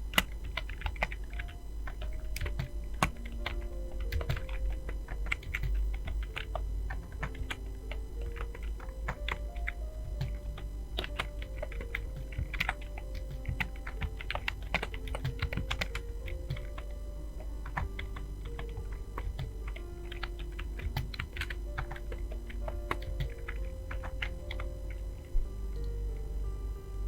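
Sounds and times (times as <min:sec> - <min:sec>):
fast typing on keyboard: 0:00.0 - 0:25.3
quiet background music: 0:00.0 - 0:27.0.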